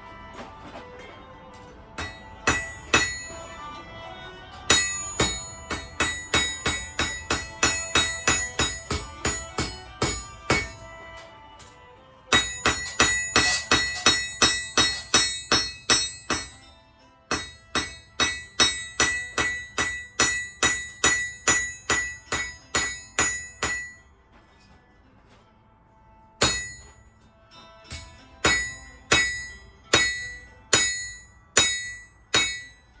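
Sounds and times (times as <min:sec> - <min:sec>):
hammer striking steel on anvil: 0:01.6 - 0:03.8, 0:04.6 - 0:24.1, 0:26.4 - 0:33.0.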